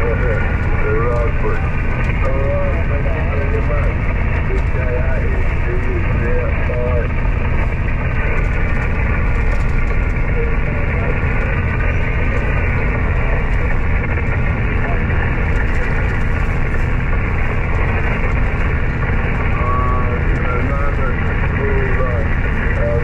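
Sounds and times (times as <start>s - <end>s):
garbled radio voice: 0.0s - 23.0s
radio static hiss: 0.0s - 23.0s.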